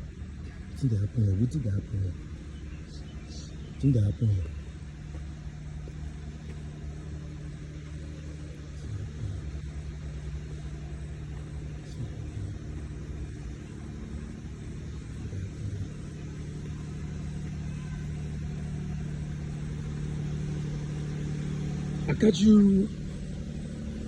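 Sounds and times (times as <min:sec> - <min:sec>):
engine humming and rumbling: 0:00.0 - 0:24.0.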